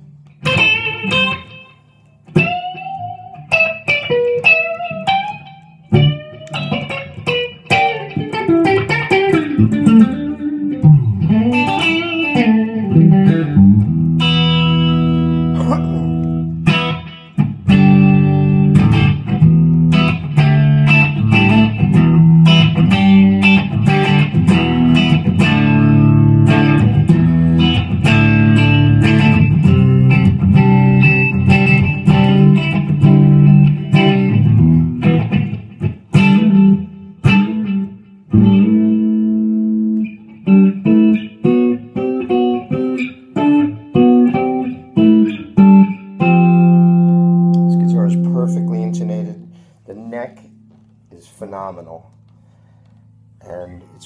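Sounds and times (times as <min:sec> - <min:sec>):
electric guitar chords: 0:00.0 - 0:53.4.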